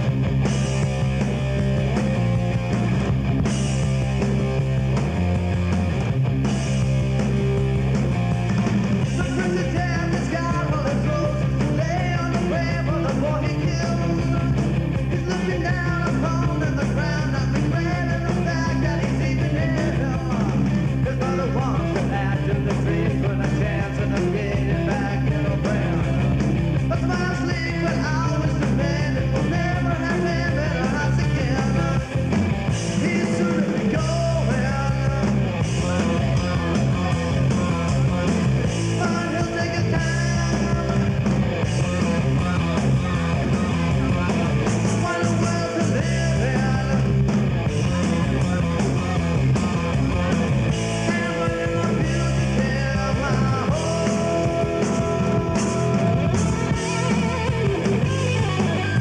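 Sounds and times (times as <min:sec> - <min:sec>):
punk rock band with singing: 0:00.0 - 0:59.0.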